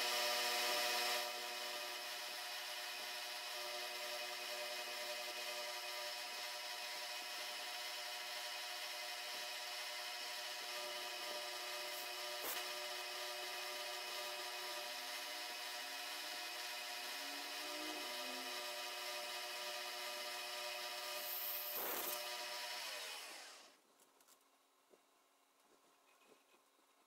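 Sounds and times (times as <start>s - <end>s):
milling spindle whine: 0.0s - 23.7s.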